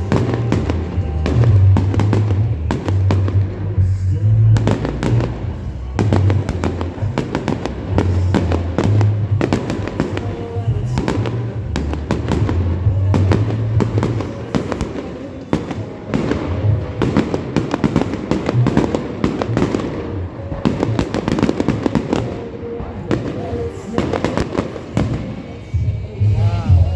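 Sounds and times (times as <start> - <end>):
christmas music: 0.0 - 26.9
fireworks bangs and crackles: 0.0 - 26.9.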